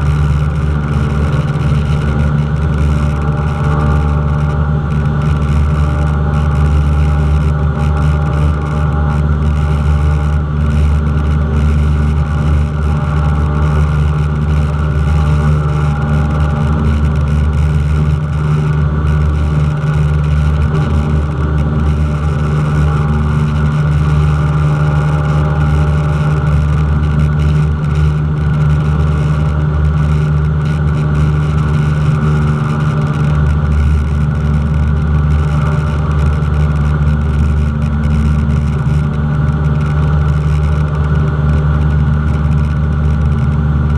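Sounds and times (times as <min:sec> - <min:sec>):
propeller plane engine droning: 0:00.0 - 0:43.9.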